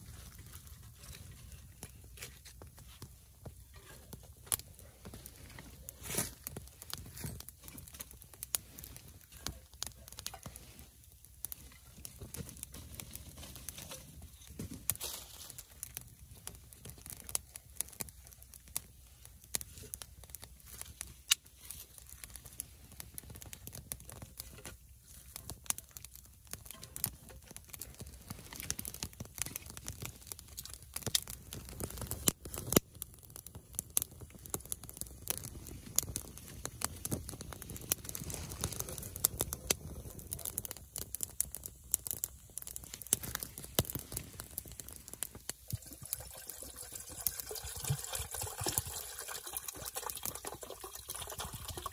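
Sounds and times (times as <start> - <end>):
kindling fire crackling: 0.0 - 51.9.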